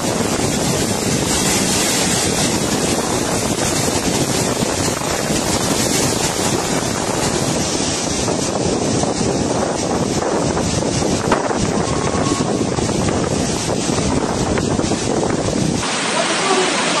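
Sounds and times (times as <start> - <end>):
floodwater rushing: 0.0 - 17.0
wind buffeting microphone: 0.0 - 17.0.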